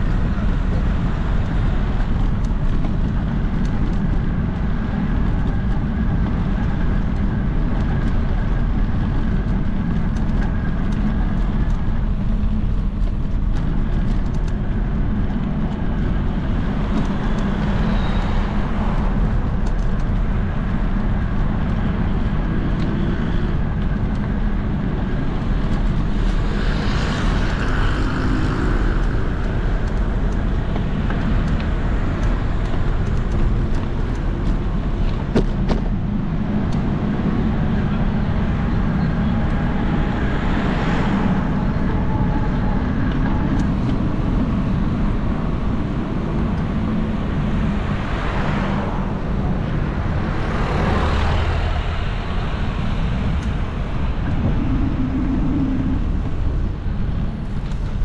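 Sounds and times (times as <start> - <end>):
traffic rumble: 0.0 - 58.0
vehicles passing: 0.0 - 58.0.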